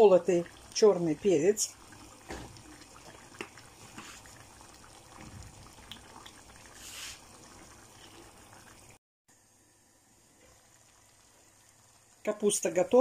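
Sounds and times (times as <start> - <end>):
food stewing in a frying pan: 0.0 - 13.0.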